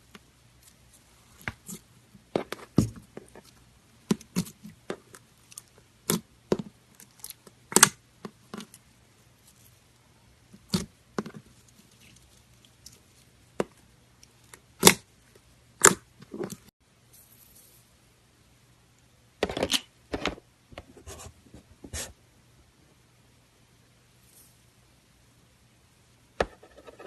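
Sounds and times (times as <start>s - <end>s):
faint steady low hum: 0.0s - 27.0s.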